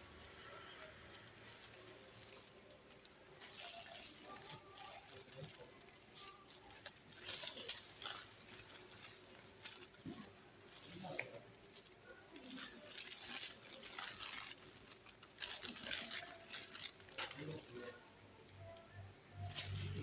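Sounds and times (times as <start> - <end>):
packaging rustling and crinkling: 0.0 - 18.4, 19.4 - 20.0.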